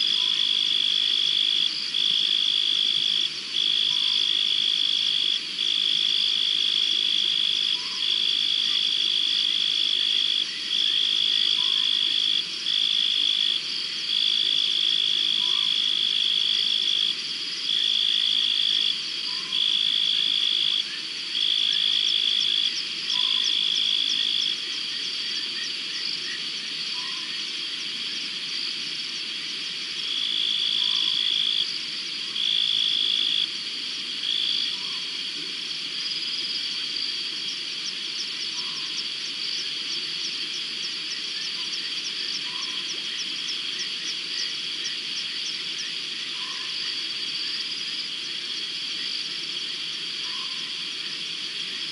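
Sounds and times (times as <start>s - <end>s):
steady high insect trill: 0.0s - 33.6s, 34.2s - 51.9s.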